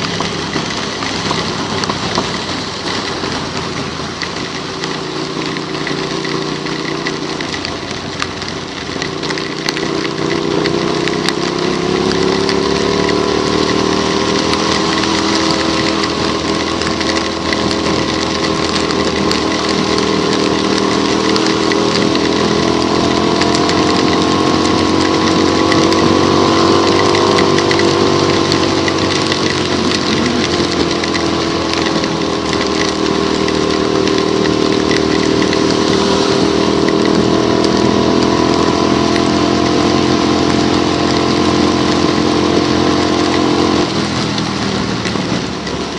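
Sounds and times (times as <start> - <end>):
small motorcycle engine: 0.0 - 45.9
tyres hissing on wet road: 0.0 - 45.9.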